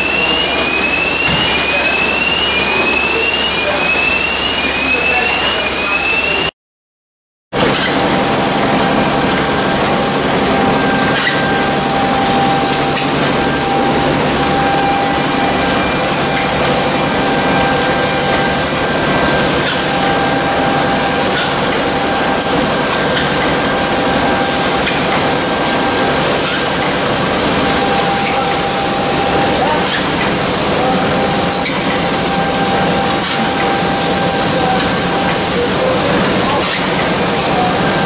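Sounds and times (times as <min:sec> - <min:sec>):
steady machine whine: 0:00.0 - 0:06.5, 0:07.6 - 0:38.0
machinery din: 0:07.6 - 0:38.0.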